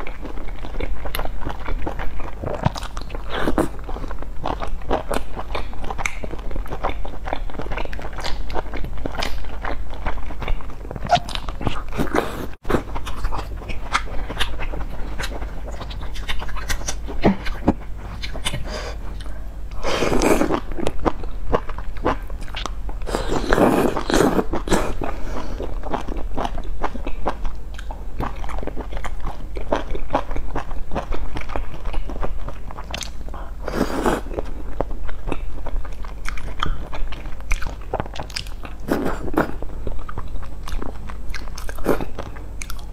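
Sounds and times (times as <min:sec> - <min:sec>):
person chewing with mouth clicks: 0:00.0 - 0:42.9.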